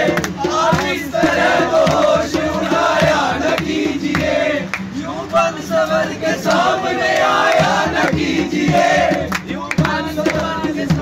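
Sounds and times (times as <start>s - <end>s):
men singing and chanting: 0.0s - 11.0s.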